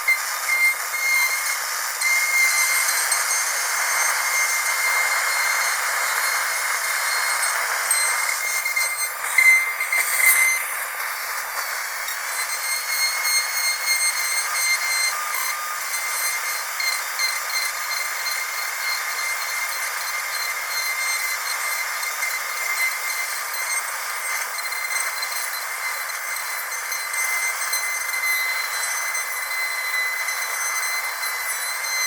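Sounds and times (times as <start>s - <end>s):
dental drill whining: 0.0s - 32.0s.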